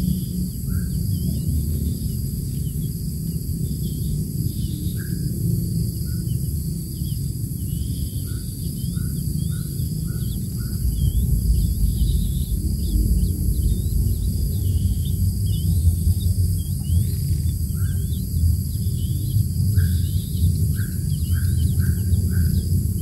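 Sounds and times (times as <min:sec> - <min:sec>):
high insect drone: 0:00.0 - 0:23.0
low rumble: 0:00.0 - 0:23.0.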